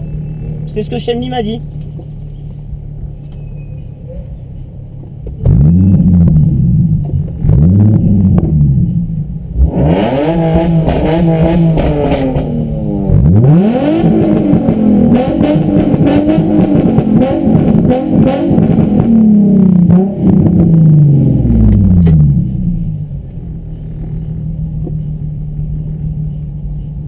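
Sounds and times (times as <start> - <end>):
car engines revving: 0.0 - 26.4.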